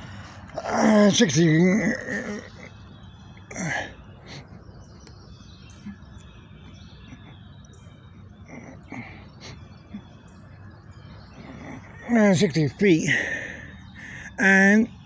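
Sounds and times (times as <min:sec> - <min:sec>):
faint bird chirps: 0:00.0 - 0:15.0
outdoor background noise: 0:00.0 - 0:15.0.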